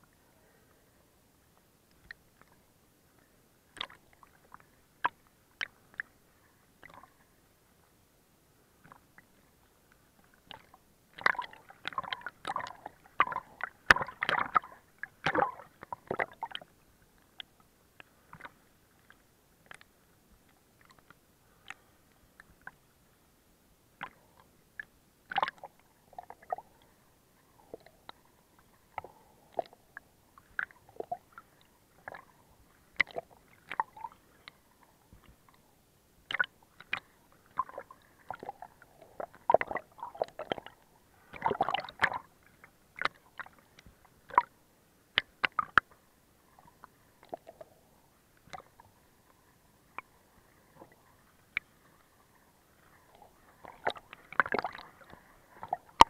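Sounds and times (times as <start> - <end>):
water sloshing against camera: 8.8 - 22.9, 24.0 - 56.0.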